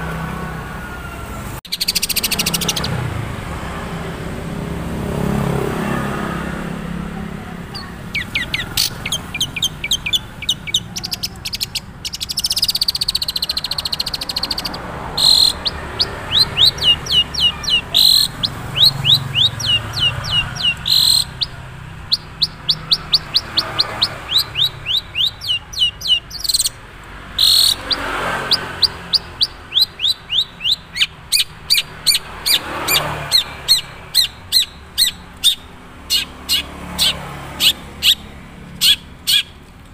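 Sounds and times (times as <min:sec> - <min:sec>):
bird whistling song: 0:01.7 - 0:03.1, 0:07.7 - 0:26.8, 0:27.4 - 0:39.6
harsh scratchy bird notes: 0:07.7 - 0:39.6.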